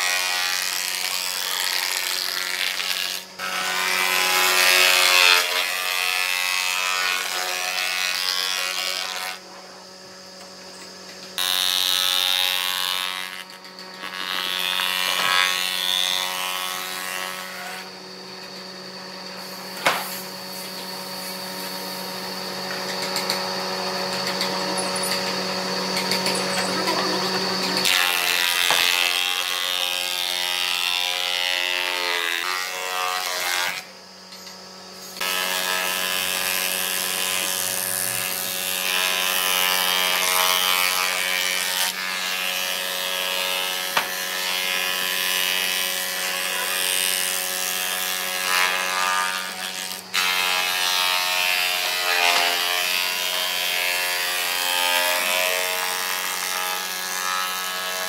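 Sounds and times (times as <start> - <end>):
jointer planer whirring and cutting: 0.0 - 34.4, 35.1 - 58.0.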